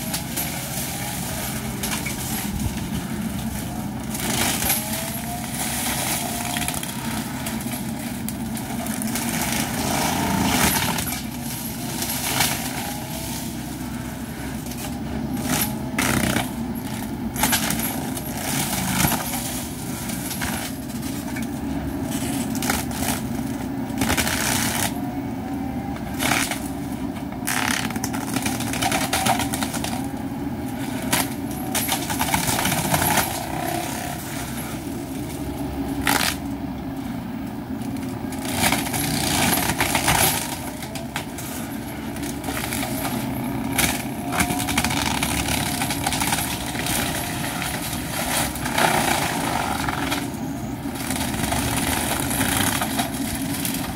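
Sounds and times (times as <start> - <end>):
diesel engine under load: 0.0 - 53.9
mulcher rotor chewing shrubs: 0.0 - 53.9
wood cracking as it is shredded: 0.0 - 53.9.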